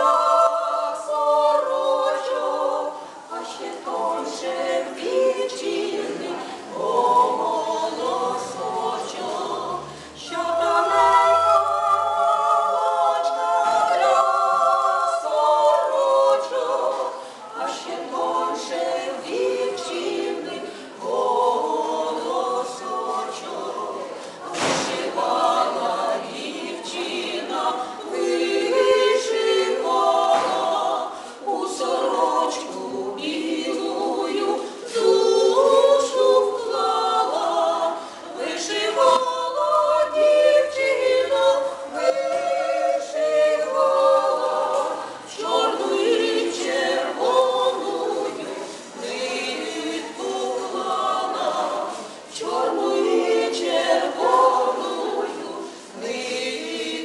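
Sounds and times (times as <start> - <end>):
women singing a cappella: 0.0 - 57.0.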